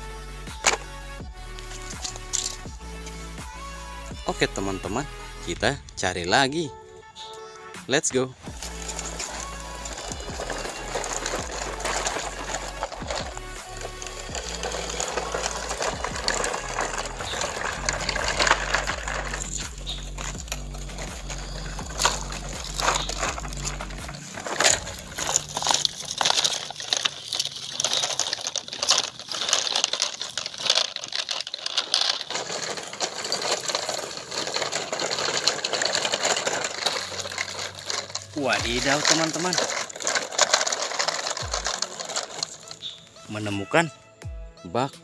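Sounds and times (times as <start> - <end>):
plastic toy trucks rattling: 0.0 - 43.9.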